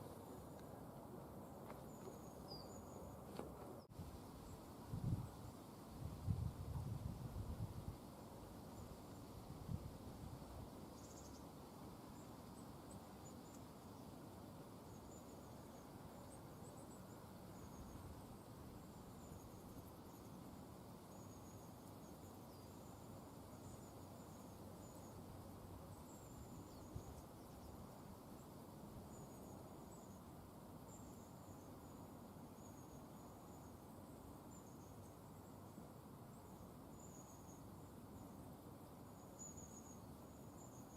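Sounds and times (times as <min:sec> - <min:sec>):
low steady outdoor noise: 0:00.0 - 0:40.9.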